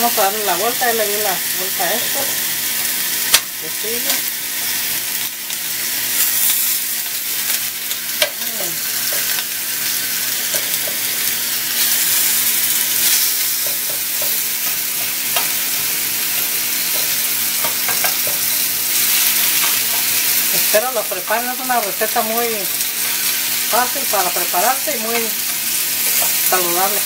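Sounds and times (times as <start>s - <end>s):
chicken sizzling on a grill pan: 0.0s - 27.0s.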